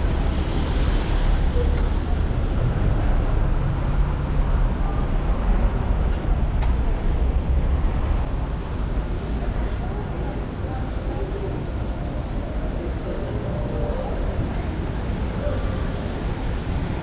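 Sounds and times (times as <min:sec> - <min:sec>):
passing vehicles rumbling: 0:00.0 - 0:17.0.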